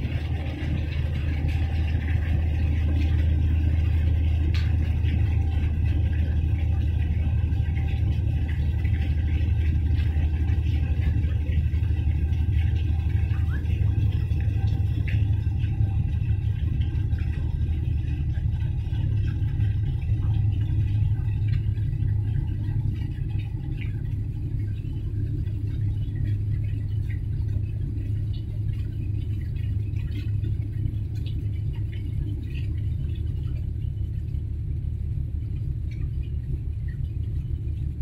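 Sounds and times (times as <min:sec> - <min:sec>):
ship engine low rumble: 0:00.0 - 0:38.0.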